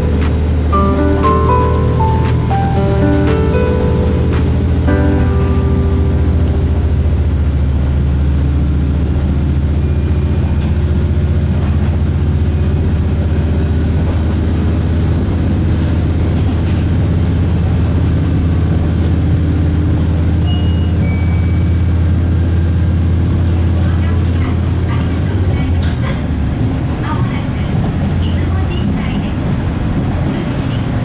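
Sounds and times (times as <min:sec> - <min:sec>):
diesel railcar engine drone: 0:00.0 - 0:31.0.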